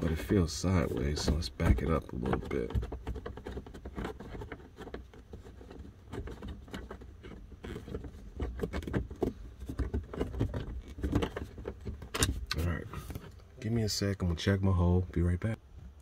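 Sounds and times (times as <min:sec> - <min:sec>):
clicks and scrapes of screw turning: 0:00.0 - 0:13.5.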